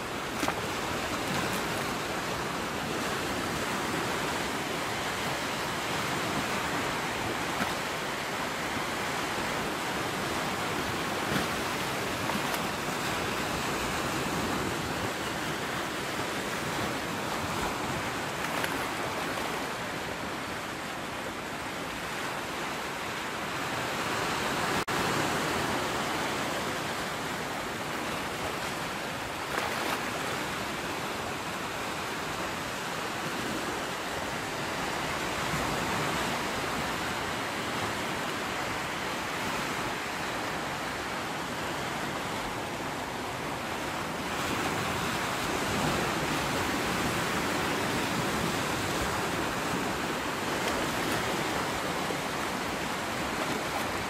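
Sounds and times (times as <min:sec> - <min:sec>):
sea surf washing ashore: 0:00.0 - 0:54.0.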